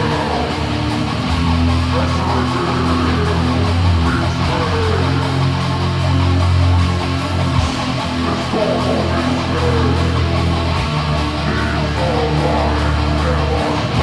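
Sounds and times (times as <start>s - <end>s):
dense drumming: 0.0s - 14.0s
distorted guitars and bass: 0.0s - 14.0s.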